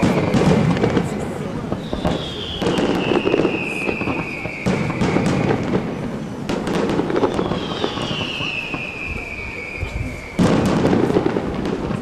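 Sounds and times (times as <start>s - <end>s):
falling firework whistle: 0.0s - 1.1s, 1.7s - 11.8s
fireworks bangs: 0.0s - 12.0s.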